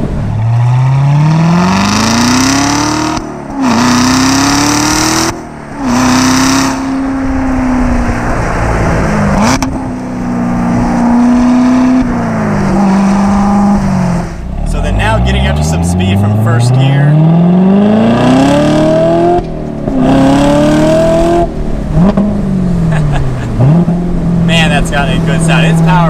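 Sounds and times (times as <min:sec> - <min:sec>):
car engine revving through gears: 0:00.0 - 0:26.0.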